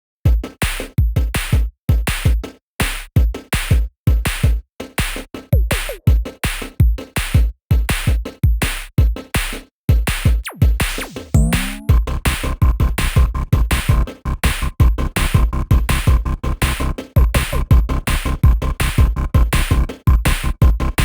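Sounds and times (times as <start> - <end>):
electronic music with heavy beat: 0.3 - 21.0.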